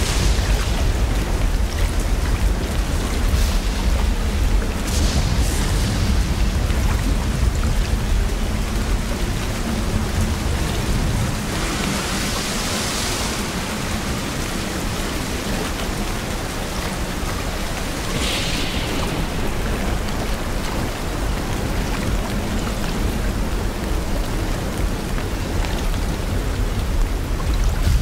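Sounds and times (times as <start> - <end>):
thunder rumbling: 0.0 - 14.8, 17.4 - 28.0
heavy rain: 0.0 - 28.0.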